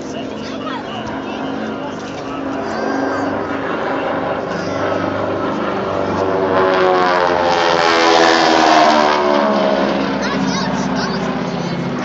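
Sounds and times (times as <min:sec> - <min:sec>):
airplane engines droning overhead: 0:00.0 - 0:12.0.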